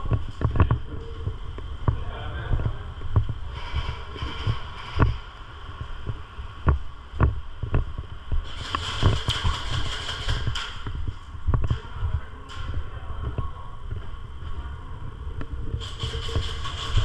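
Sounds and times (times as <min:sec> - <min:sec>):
low thumps: 0:00.0 - 0:17.0.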